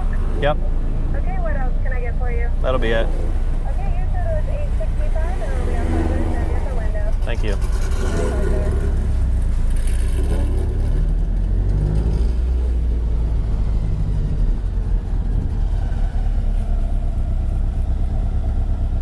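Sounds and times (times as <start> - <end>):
car engine idling: 0.0 - 11.7, 12.4 - 19.0.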